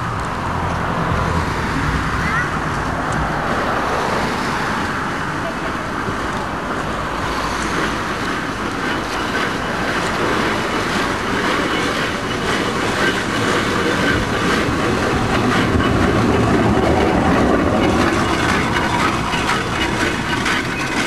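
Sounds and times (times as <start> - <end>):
steam carriage mechanical clatter: 0.0 - 21.0.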